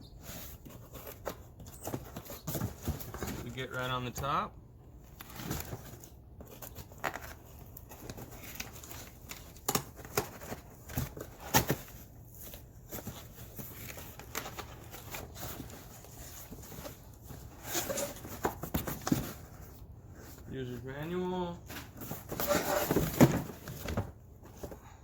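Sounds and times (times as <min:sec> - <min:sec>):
cardboard box being unpacked: 0:00.1 - 0:04.3, 0:05.0 - 0:20.5, 0:21.5 - 0:25.0.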